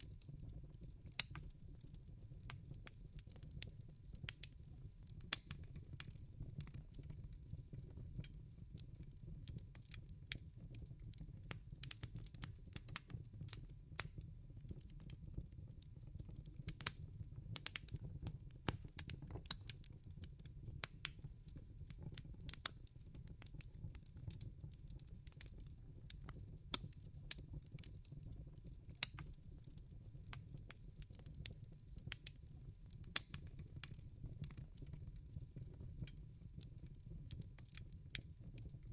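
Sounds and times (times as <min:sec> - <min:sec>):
low rumble of fire: 0:00.0 - 0:38.9
wood fire crackling and popping: 0:00.0 - 0:38.9.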